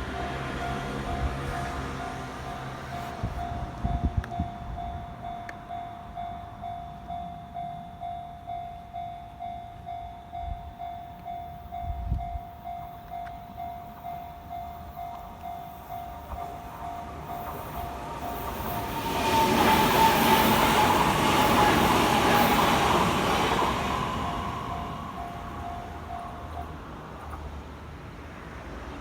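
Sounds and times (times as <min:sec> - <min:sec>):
level-crossing warning bell: 0:00.0 - 0:27.4
approaching train rumble: 0:00.0 - 0:29.0.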